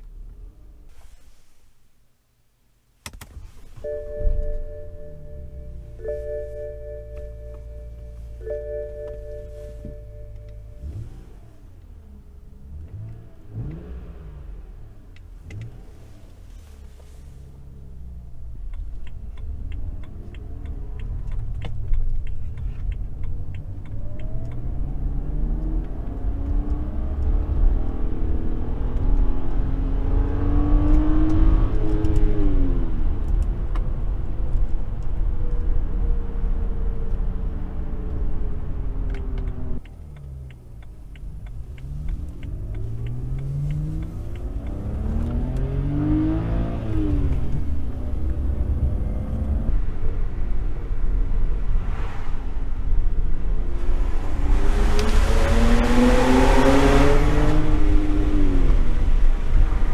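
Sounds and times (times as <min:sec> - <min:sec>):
car engine accelerating: 0:03.7 - 0:59.9.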